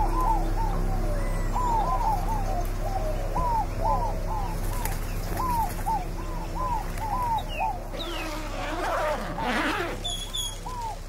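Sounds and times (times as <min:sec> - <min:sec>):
bird calls with arching notes: 0:00.0 - 0:11.0
steady low hum: 0:00.0 - 0:11.0.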